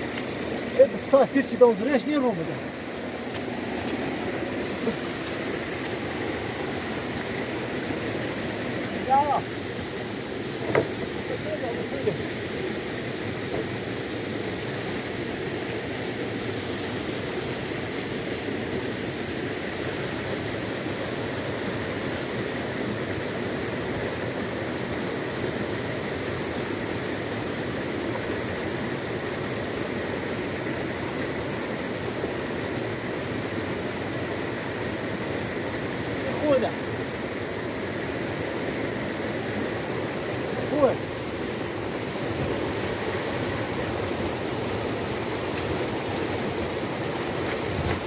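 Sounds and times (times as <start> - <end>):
water rushing: 0.0 - 48.0.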